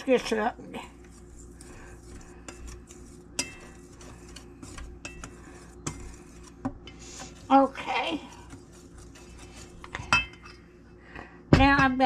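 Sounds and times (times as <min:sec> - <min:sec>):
whisk scratching in flour: 0:00.0 - 0:10.6
whisk clinking against metal bowl: 0:00.1 - 0:07.5, 0:08.2 - 0:10.6.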